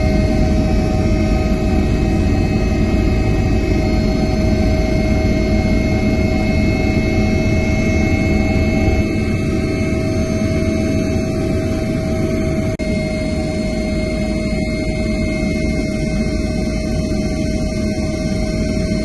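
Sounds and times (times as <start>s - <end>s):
helicopter engine and rotors: 0.0s - 19.0s.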